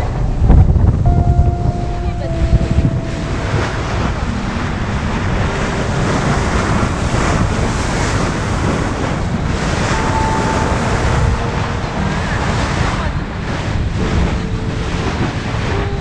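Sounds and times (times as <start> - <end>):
wind buffeting microphone: 0.0 - 16.0
water rushing: 1.0 - 16.0.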